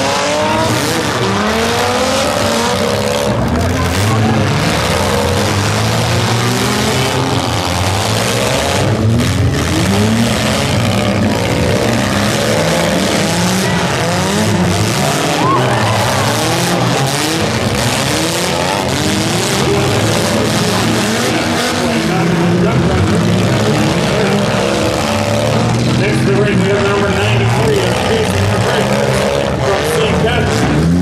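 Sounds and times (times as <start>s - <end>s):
car engines revving: 0.0s - 31.0s
tyres skidding in dirt: 0.0s - 31.0s.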